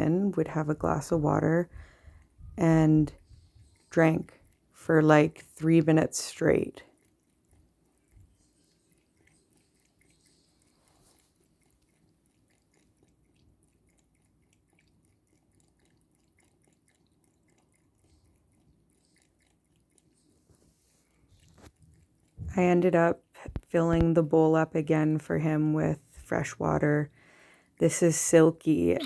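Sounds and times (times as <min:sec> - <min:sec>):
cat lapping water: 0:00.6 - 0:28.0.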